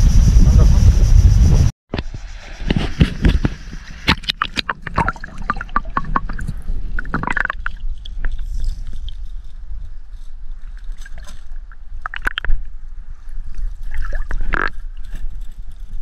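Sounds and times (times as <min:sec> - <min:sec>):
water sloshing and gurgling: 0:02.7 - 0:16.0.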